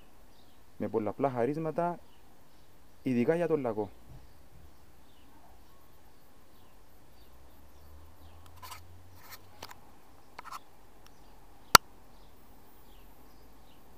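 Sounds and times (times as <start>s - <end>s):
faint bird chirps: 0.0s - 13.9s.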